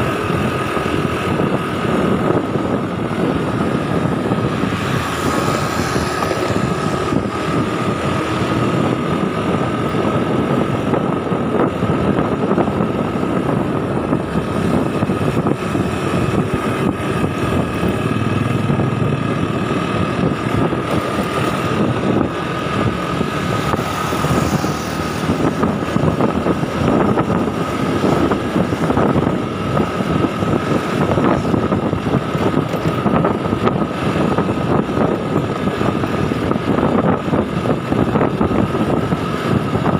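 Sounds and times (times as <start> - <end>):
motorbike engine: 0.0 - 39.9
wind and road noise: 0.0 - 39.9.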